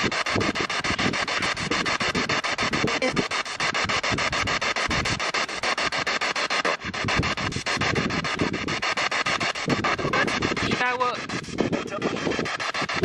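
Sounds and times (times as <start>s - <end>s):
pulsing radio hiss: 0.0s - 13.0s.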